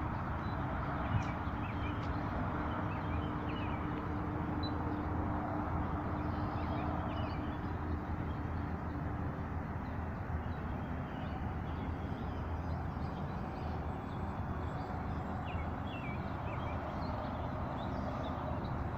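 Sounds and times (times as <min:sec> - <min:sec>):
jet engines low rumble: 0:00.0 - 0:18.9.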